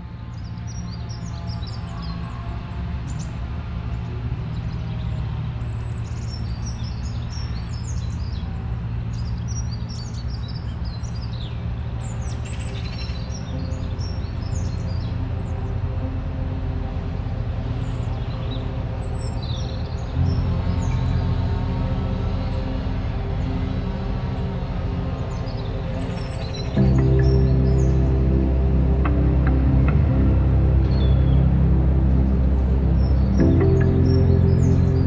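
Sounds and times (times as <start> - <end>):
birds chirping: 0.0 - 35.0
low background music chords: 0.0 - 35.0.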